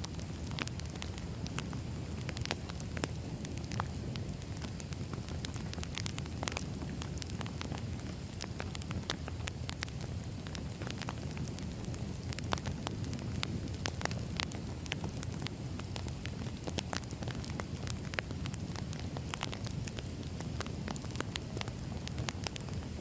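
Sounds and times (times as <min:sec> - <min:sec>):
crackles and pops from logs: 0:00.0 - 0:23.0
low rumble of flames: 0:00.0 - 0:23.0.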